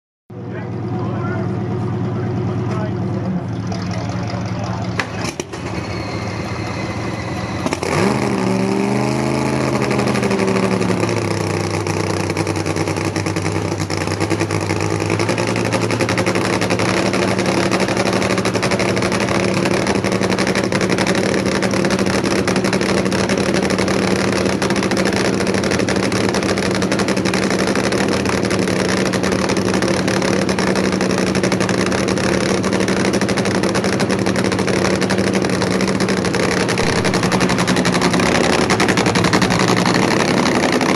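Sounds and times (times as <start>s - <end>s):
loud drag car engine revving: 0.4s - 40.9s.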